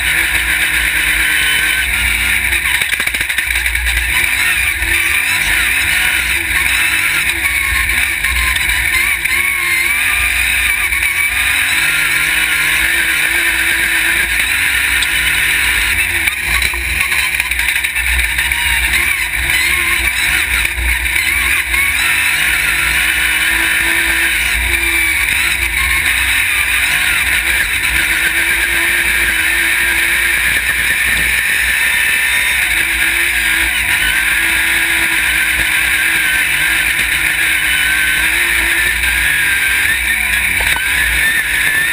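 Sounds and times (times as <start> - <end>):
buggy engine revving: 0.0 - 41.9.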